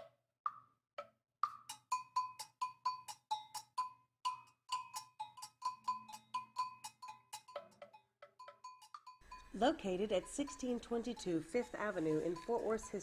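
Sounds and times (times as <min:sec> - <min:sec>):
bell-like metal percussion: 0:01.6 - 0:13.0.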